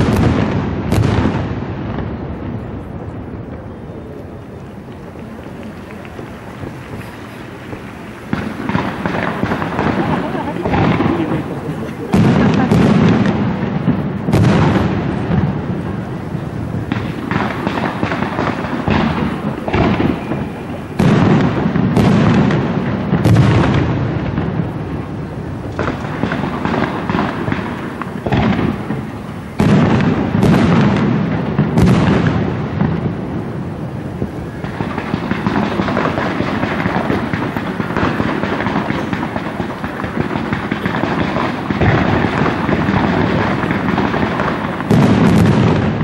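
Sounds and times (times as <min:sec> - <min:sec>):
fireworks bangs and booms: 0:00.0 - 0:46.0
fireworks crackling: 0:00.0 - 0:46.0.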